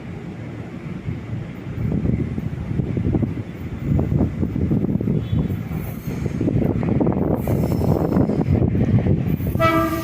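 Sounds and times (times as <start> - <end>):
train rumbling on tracks: 0.0 - 10.0.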